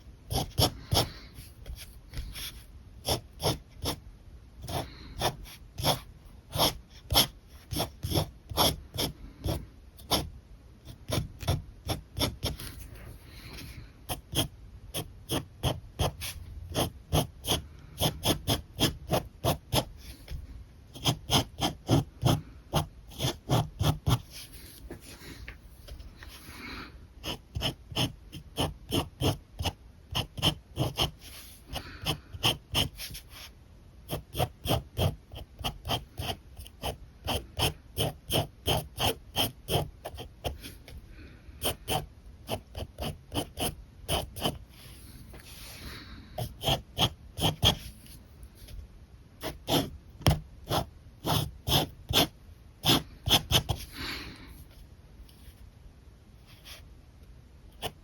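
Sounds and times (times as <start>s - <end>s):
marker scratching on paper: 0.3s - 4.0s, 4.6s - 10.3s, 10.9s - 26.5s, 27.2s - 33.5s, 34.1s - 40.8s, 41.6s - 48.7s, 49.4s - 54.0s, 56.5s - 56.9s, 57.8s - 58.0s.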